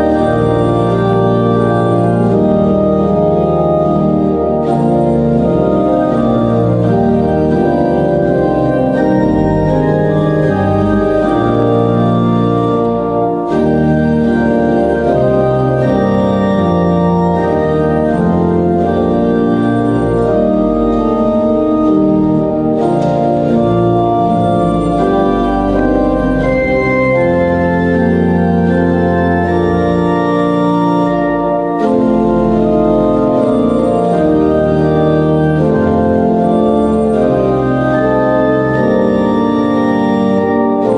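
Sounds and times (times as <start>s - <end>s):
organ chords: 0.0s - 40.9s.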